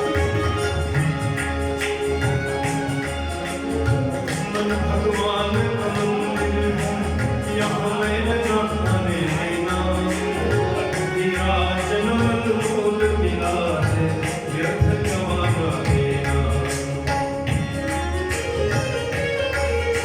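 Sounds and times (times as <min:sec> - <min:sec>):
jingling percussion: 0:00.0 - 0:20.0.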